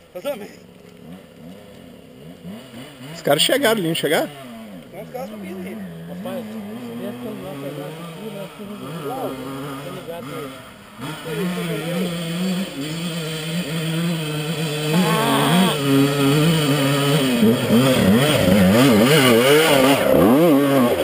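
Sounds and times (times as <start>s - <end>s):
dirt bike engine revving: 0.6s - 21.0s.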